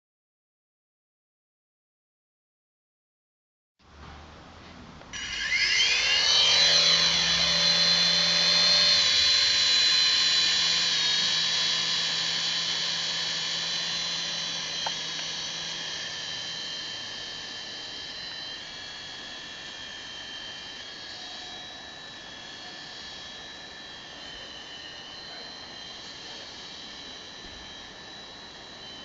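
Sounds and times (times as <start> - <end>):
toy helicopter rotors whining: 5.2 - 29.0.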